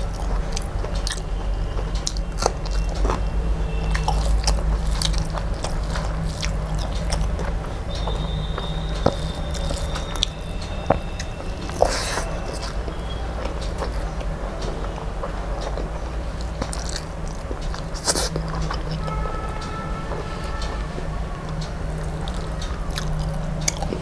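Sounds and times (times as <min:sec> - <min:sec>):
person chewing: 0:00.0 - 0:24.0
steady low hum: 0:00.0 - 0:24.0.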